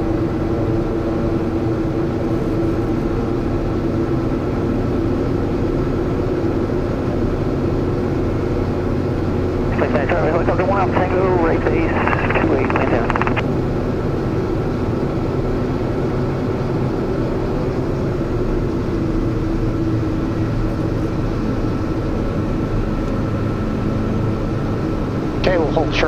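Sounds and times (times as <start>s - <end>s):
turboprop engine droning: 0.0s - 26.0s.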